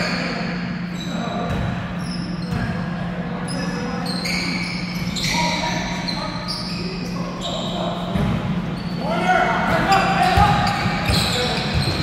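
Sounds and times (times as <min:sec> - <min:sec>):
sneaker squeaks: 0:00.0 - 0:12.0.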